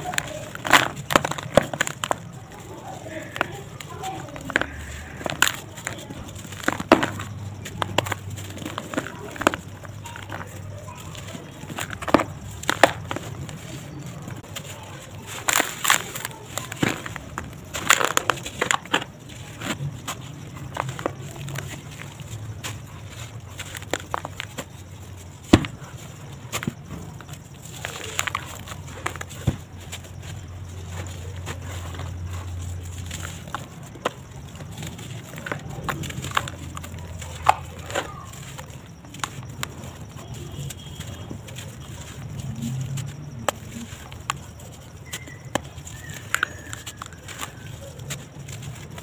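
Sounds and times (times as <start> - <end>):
dry cement lumps crunching: 0.0 - 49.0.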